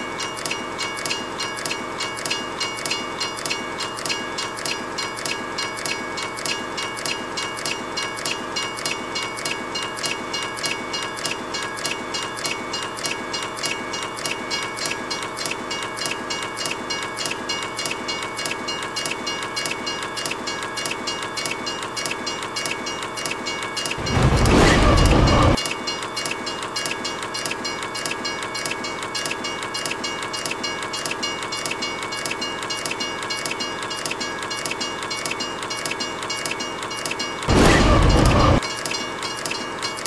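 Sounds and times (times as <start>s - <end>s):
train rhythmic clatter: 0.0s - 40.0s.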